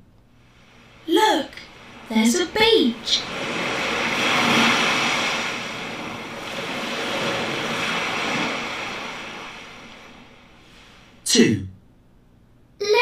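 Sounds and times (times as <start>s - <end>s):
waves washing onto beach: 0.4s - 11.2s.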